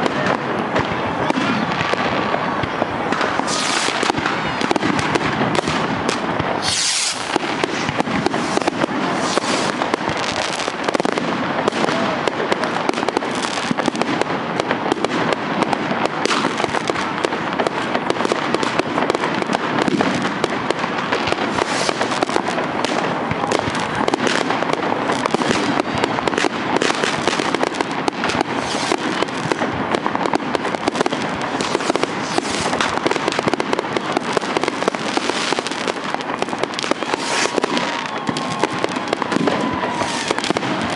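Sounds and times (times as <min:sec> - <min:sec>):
fireworks crackling and popping: 0:00.0 - 0:40.9
loud firework bang: 0:00.0 - 0:40.9.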